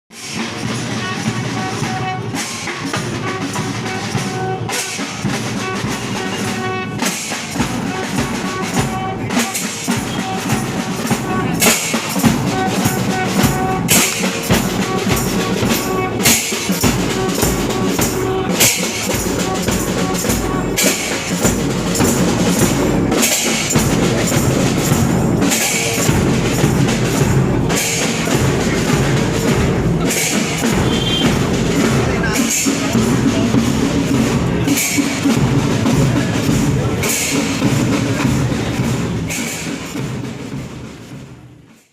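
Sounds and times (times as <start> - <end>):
music with drum-kit beat: 0.1 - 41.7
cymbal hits: 0.2 - 40.9
bass drum: 0.5 - 41.6.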